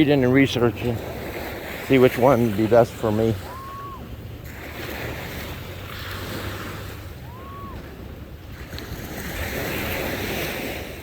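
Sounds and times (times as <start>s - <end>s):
waves washing on sandy beach: 0.0s - 11.0s
wind rumbling on microphone: 0.0s - 11.0s.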